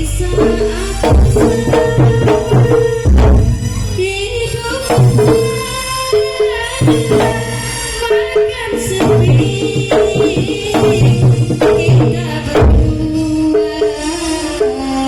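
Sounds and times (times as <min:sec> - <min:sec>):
hand drums beating: 0:00.0 - 0:14.9.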